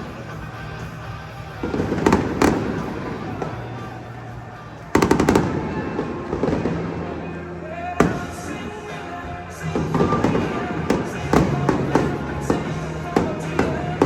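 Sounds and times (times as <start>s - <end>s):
background music with low notes: 0.0s - 14.0s
fireworks bangs: 0.0s - 14.0s.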